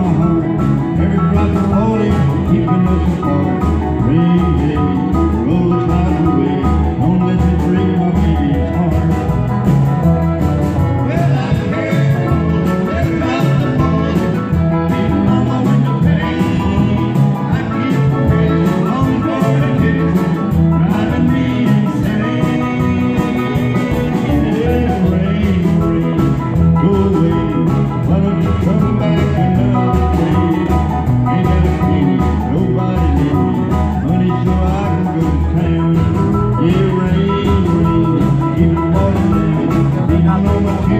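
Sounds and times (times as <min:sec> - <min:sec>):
country band playing: 0:00.0 - 0:40.9
lead guitar: 0:00.0 - 0:40.9.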